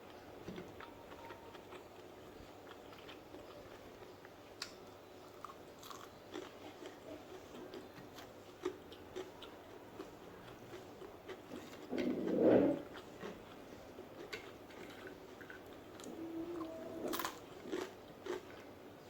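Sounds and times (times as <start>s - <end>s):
person chewing food: 0.4s - 18.8s.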